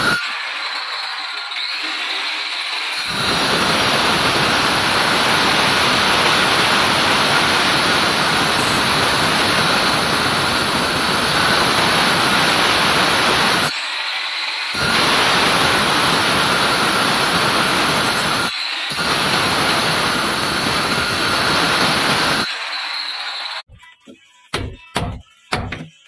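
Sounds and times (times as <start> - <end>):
angle grinder cutting brick: 0.0 - 23.7.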